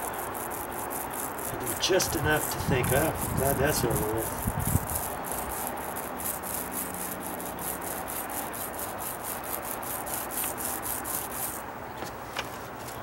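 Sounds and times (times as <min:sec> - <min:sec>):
paint roller rubbing on wood: 0:00.0 - 0:11.7.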